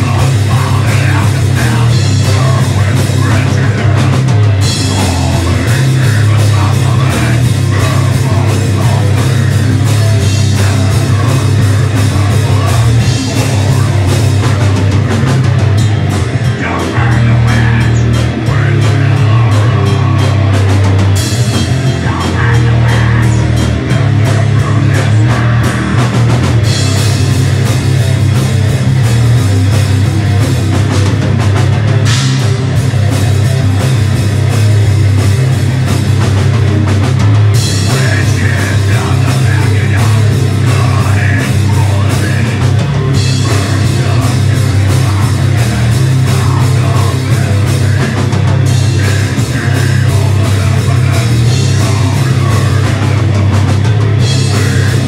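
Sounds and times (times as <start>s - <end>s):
heavy rock band playing: 0.0s - 55.0s.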